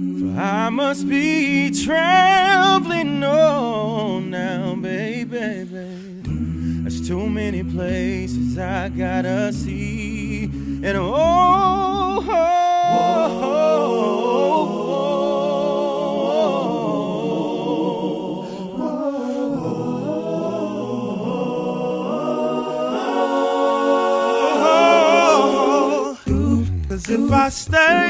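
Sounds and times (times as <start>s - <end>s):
a cappella group singing harmonies: 0.0s - 28.0s.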